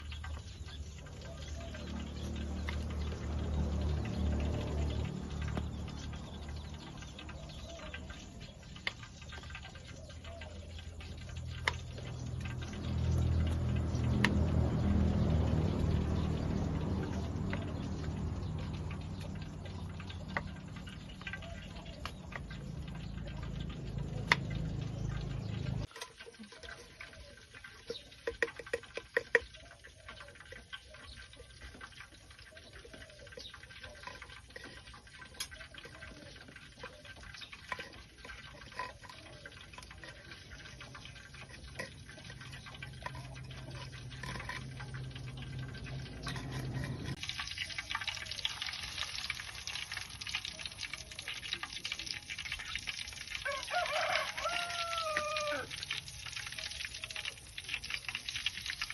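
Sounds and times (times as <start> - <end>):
liquid being handled: 0.0 - 58.9.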